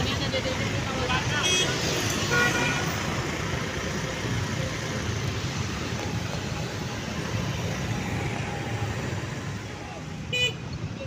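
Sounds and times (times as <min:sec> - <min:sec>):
road traffic engines: 0:00.0 - 0:11.0.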